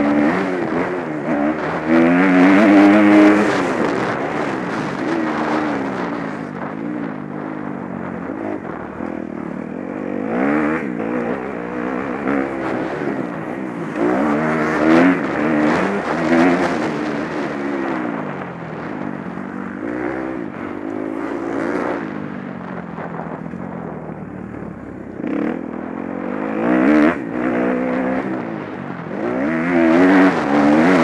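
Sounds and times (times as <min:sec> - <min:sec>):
motorbike engines revving: 0:00.0 - 0:31.0.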